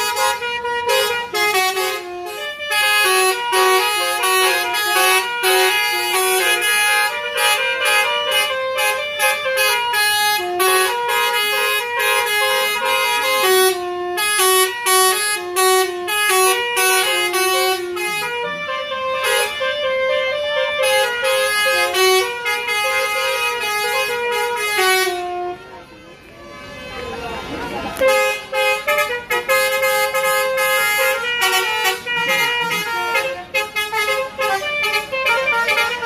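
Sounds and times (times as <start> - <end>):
musical bus horn tune: 0.0 - 27.0, 27.9 - 36.0.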